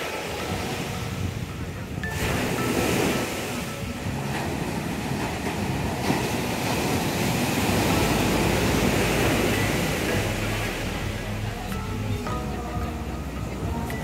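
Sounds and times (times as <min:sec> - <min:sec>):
sea surf breaking on beach: 0:00.0 - 0:14.0.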